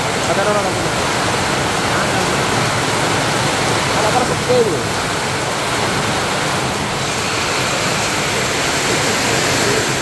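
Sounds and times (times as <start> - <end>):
heavy rain on awnings and street: 0.0 - 10.0.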